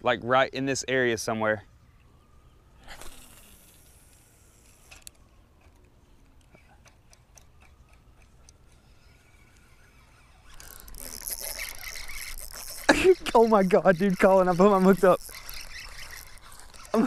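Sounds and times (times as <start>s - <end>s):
fishing reel ticking: 2.9s - 17.0s.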